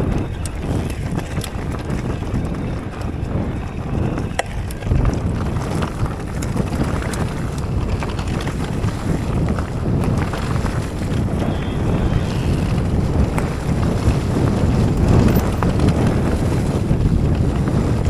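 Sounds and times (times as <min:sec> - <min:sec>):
bike clacking over bumps: 0:00.0 - 0:18.0
tyres rolling over dirt: 0:00.0 - 0:18.0
wind rumbling on microphone: 0:00.0 - 0:18.0.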